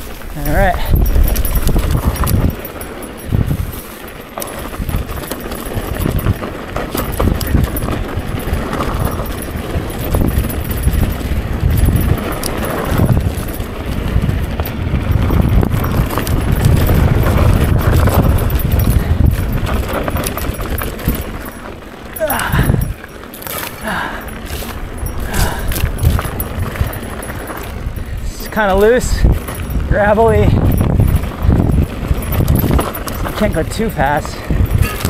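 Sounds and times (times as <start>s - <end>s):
bike rattling and knocking: 0.0s - 35.0s
tyres crunching on gravel: 0.0s - 35.0s
wind on microphone: 0.0s - 35.0s.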